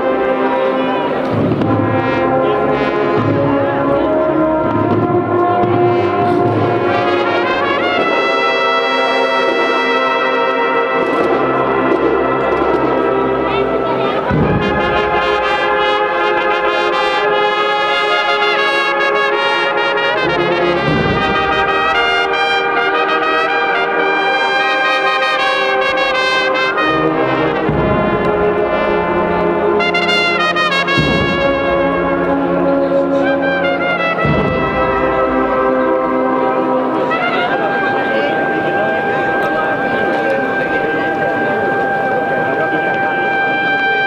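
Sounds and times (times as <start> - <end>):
brass band playing a march: 0.0 - 44.0.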